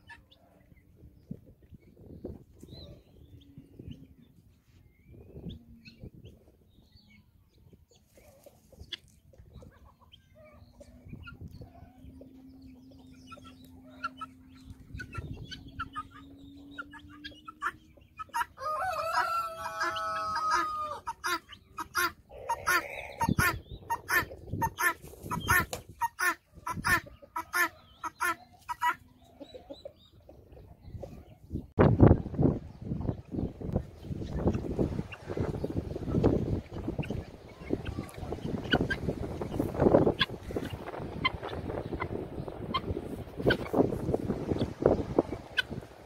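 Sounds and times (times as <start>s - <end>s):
soft bird clucks: 7.6s - 45.9s.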